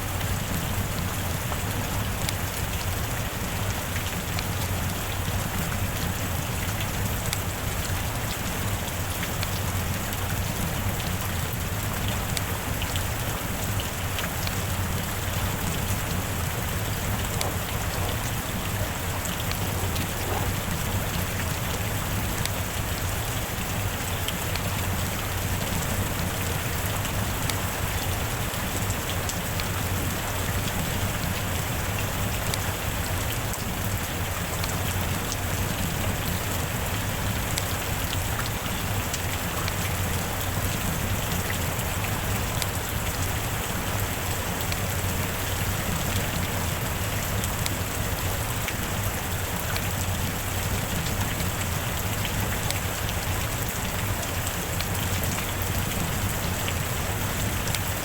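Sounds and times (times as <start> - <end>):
heavy rain falling: 0.0 - 58.0
rain drop ticks: 0.1 - 58.0.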